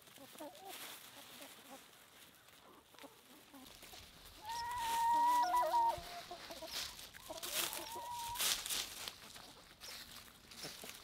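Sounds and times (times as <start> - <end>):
hens calling and clucking: 0.0 - 11.0.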